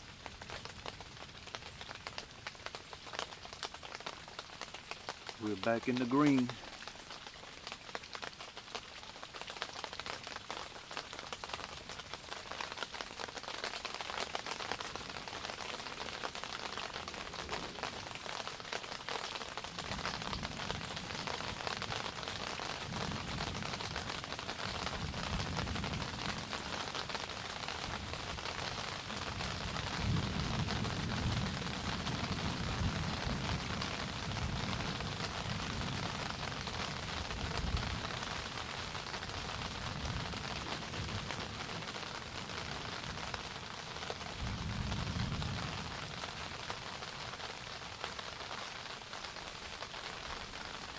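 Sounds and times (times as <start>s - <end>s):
heavy rain pattering: 0.0s - 50.9s.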